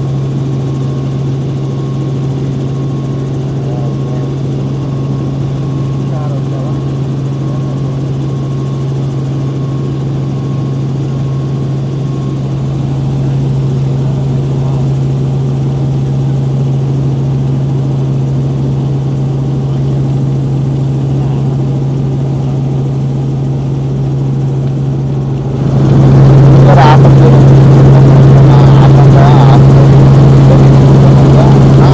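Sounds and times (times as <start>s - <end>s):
helicopter cabin drone: 0.0s - 31.9s.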